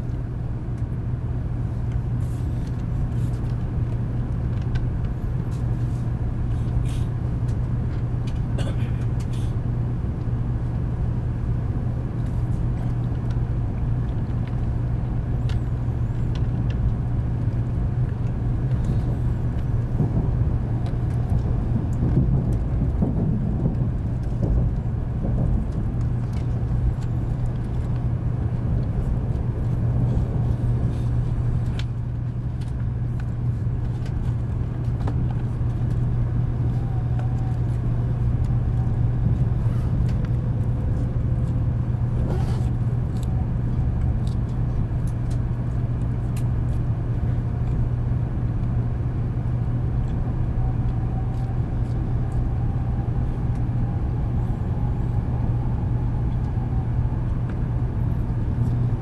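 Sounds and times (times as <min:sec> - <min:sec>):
train cabin hum and rumble: 0:00.0 - 0:59.0.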